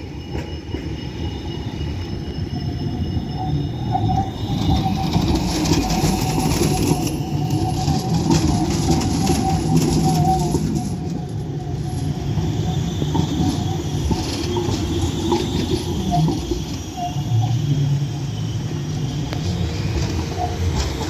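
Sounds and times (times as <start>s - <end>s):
tram rumbling past: 0.0s - 21.0s
wheel squeal on rails: 0.0s - 21.0s.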